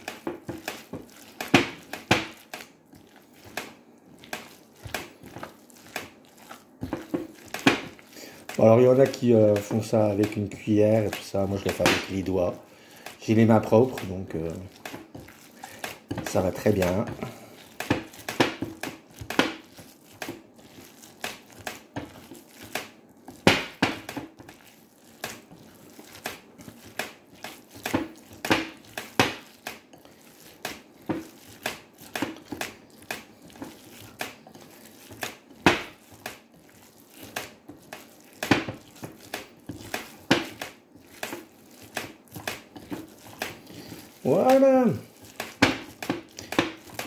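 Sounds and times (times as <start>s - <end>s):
hands squishing minced meat: 0.0s - 47.0s.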